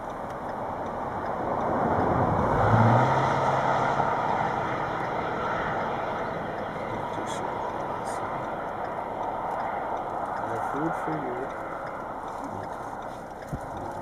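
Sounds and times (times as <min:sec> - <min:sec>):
vehicle passing on road: 0:00.0 - 0:14.0.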